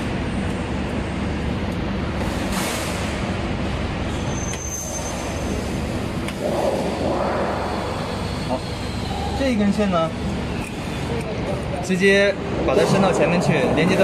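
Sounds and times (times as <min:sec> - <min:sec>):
low mechanical rumbling drone: 0:00.0 - 0:14.0.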